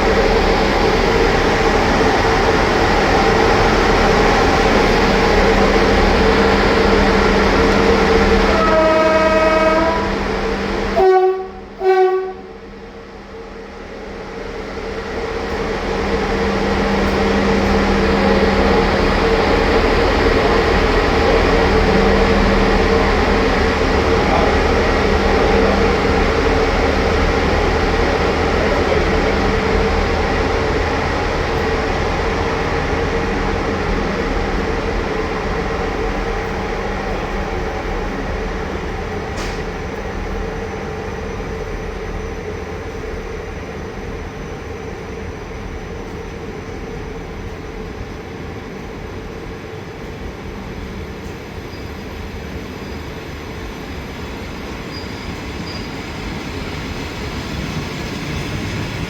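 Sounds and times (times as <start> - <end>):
train pulling away: 0.0 - 59.0.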